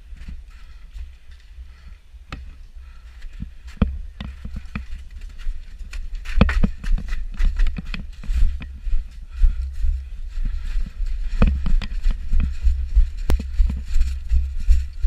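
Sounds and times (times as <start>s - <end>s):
steady low rumble: 0.0s - 15.0s
footsteps: 2.3s - 15.0s.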